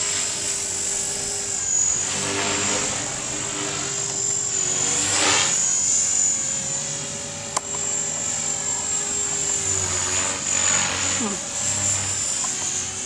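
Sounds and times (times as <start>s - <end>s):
rc helicopter motor whine: 0.0s - 13.0s
rotor hum: 0.0s - 13.0s.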